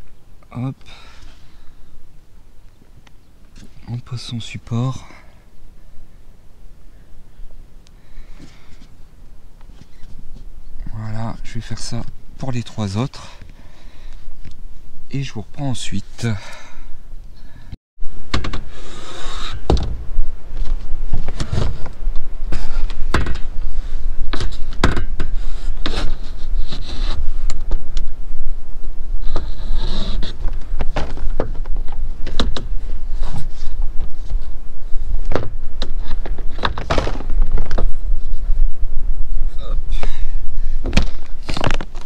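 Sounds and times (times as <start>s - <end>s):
wind rumbling on microphone: 1.5s - 42.0s.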